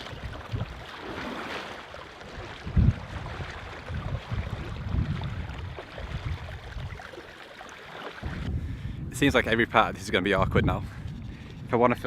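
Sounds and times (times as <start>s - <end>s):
wind buffeting microphone: 0.0s - 1.4s, 2.2s - 7.2s, 8.2s - 12.0s
water lapping around a kayak: 0.0s - 8.8s, 10.6s - 11.8s.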